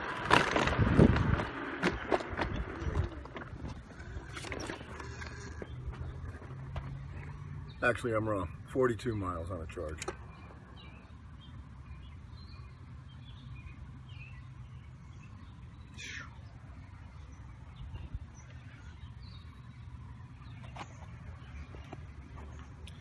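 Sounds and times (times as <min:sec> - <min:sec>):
low steady rumble: 0:00.0 - 0:23.0
distant bird chirps: 0:02.4 - 0:23.0.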